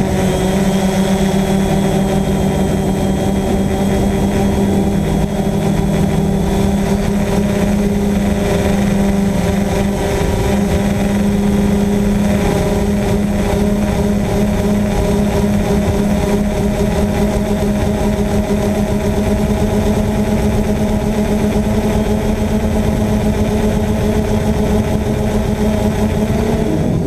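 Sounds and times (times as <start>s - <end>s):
drone motors and propellers humming: 0.0s - 27.0s.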